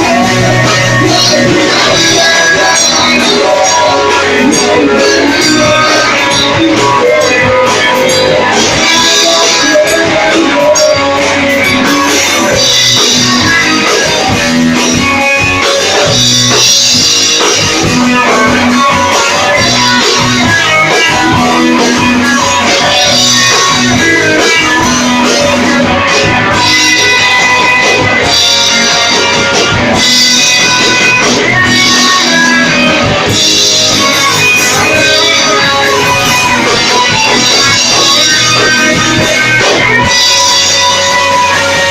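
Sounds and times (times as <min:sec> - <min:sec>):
drum kit: 0:00.0 - 0:41.9
electric guitars: 0:00.0 - 0:41.9.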